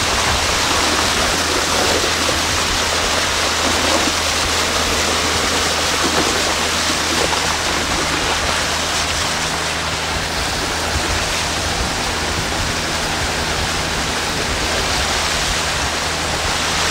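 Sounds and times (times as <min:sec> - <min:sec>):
boat motor humming: 0:00.0 - 0:16.9
rush of water and air: 0:00.0 - 0:16.9.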